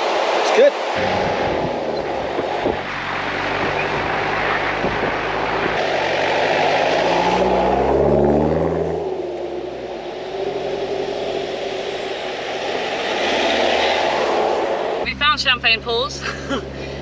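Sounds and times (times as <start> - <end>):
wind rush: 0.0 - 8.1, 9.0 - 15.1
vehicle engine: 1.0 - 17.0.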